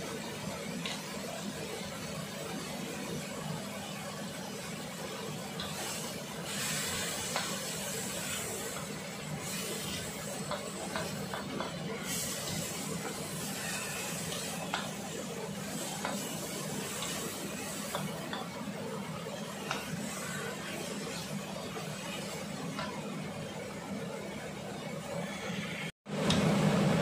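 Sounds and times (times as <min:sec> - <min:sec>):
vegetables sizzling in a wok: 0:00.0 - 0:24.4.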